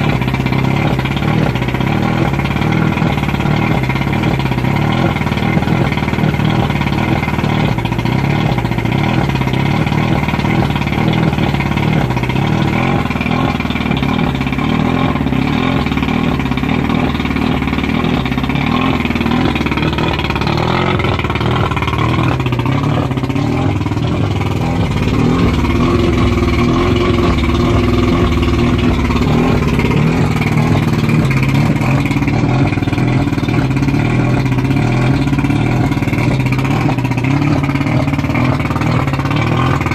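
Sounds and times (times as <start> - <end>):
outboard motor idling: 0.0 - 39.9.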